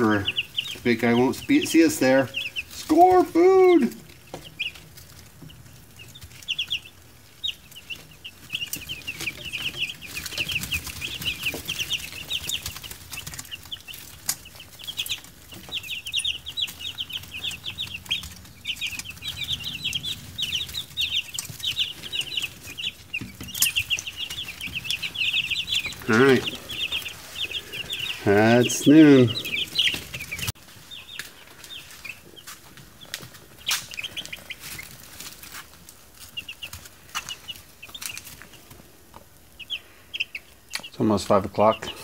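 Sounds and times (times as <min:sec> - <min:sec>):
chicks peeping: 0:00.0 - 0:42.0.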